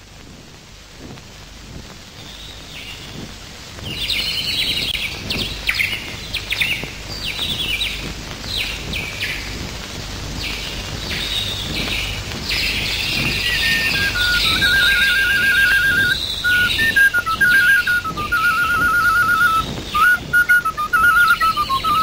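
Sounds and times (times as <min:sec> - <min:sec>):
steady low hum: 0:00.0 - 0:22.0
small birds chirping: 0:02.0 - 0:22.0.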